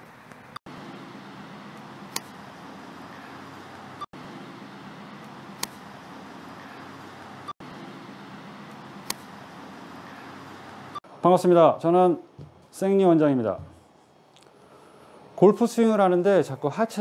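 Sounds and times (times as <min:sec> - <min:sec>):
outdoor background hum: 0:00.0 - 0:17.0.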